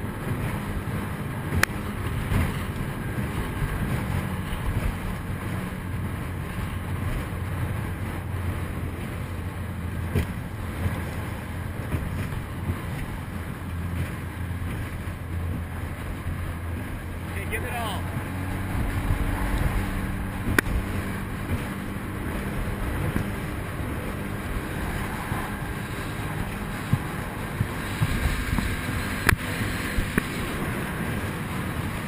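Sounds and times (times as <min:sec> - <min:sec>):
boat engine drone: 0:00.0 - 0:32.0
rush of wind and water: 0:00.0 - 0:32.0.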